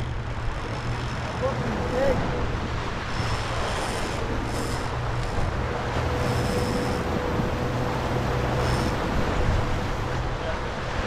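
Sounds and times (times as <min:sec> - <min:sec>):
boat engine running: 0:00.0 - 0:11.0
rush of boat wake: 0:00.0 - 0:11.0
wind on microphone: 0:00.0 - 0:11.0.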